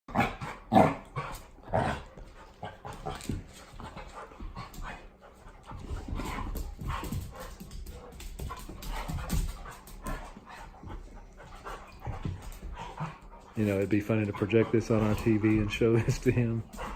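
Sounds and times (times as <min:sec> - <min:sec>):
dog panting and whining: 0:00.3 - 0:16.9.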